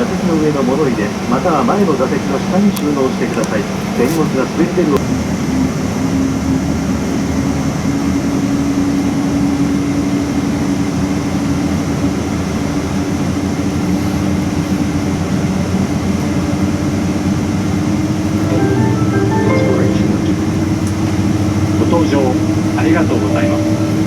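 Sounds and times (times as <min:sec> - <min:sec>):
airliner cabin rush and hum: 0:00.0 - 0:18.5, 0:19.8 - 0:24.0.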